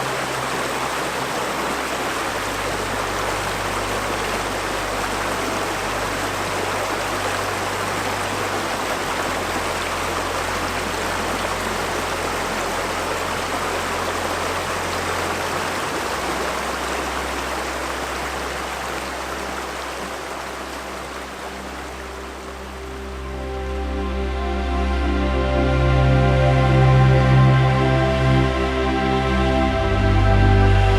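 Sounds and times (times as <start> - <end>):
river water rushing: 0.0 - 30.9
soft low music notes: 0.0 - 30.9.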